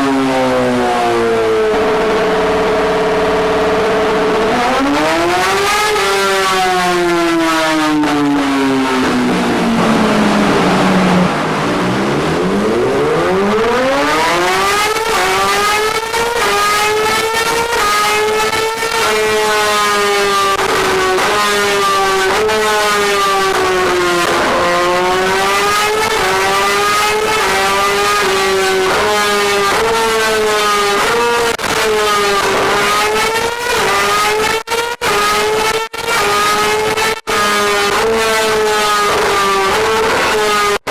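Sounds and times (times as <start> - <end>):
motorcycle engine revving high: 0.0 - 40.9.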